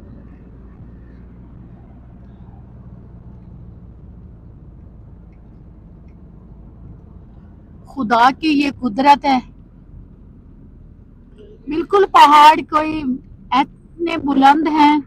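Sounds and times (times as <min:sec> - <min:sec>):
car driving low rumble: 0:00.0 - 0:15.0.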